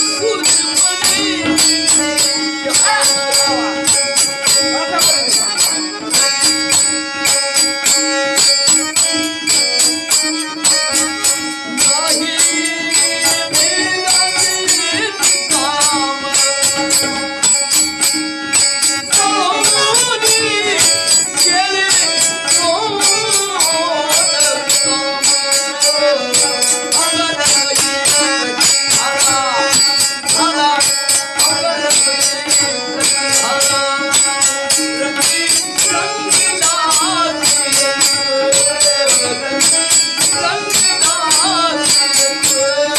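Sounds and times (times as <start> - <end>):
wavering melody line: 0.0 - 42.8
jingling percussion: 0.0 - 42.9.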